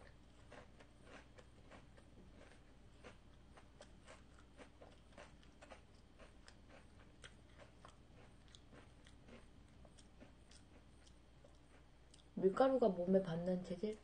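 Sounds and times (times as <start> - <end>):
faint chewing of wafer cone: 0.0 - 12.5.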